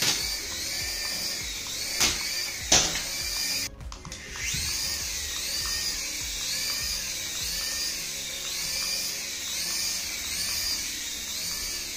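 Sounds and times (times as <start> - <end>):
background music: 0.0 - 11.9
toy helicopter motor whining: 0.0 - 11.9.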